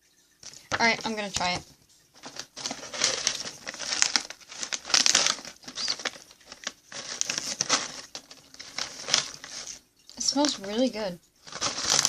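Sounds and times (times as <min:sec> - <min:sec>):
plastic snack bag crinkling: 0:00.4 - 0:01.6, 0:02.2 - 0:12.0.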